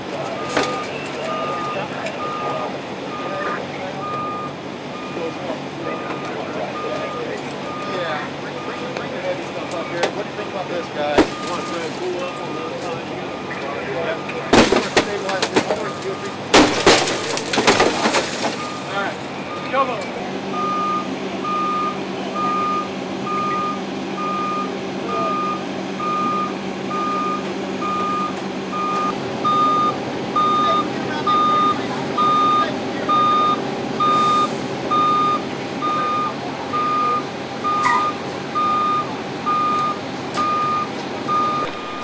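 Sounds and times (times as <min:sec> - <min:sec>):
engine running: 0:00.0 - 0:42.0
reversing alarm beeping: 0:00.3 - 0:08.9, 0:11.3 - 0:14.5, 0:18.6 - 0:19.9, 0:20.5 - 0:42.0.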